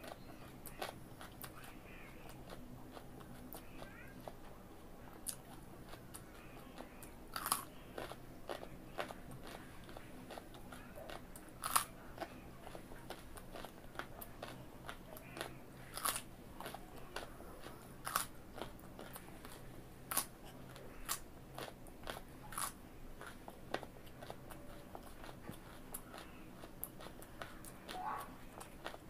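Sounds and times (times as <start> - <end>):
crackling chews: 0.0 - 29.0
crunching raw carrot: 5.2 - 29.0.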